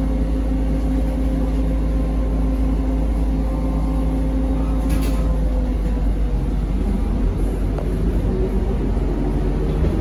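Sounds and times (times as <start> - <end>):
trolleybus low rumble: 0.0 - 10.0.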